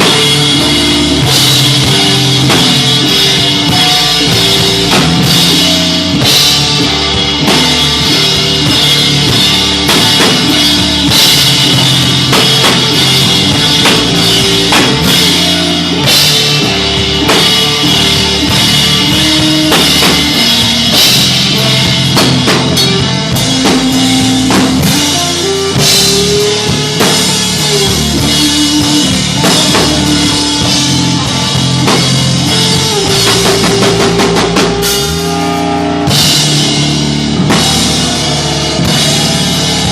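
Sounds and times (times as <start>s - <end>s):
distorted guitar and bass: 0.0s - 39.9s
drum kit hitting: 0.0s - 39.9s
rock band playing loud: 0.0s - 39.9s.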